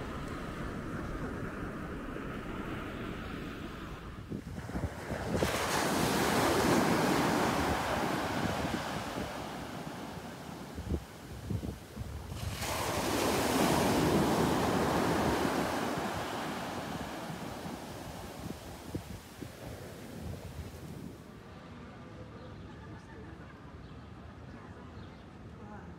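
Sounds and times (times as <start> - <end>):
sea waves breaking on shore: 0.0 - 21.2.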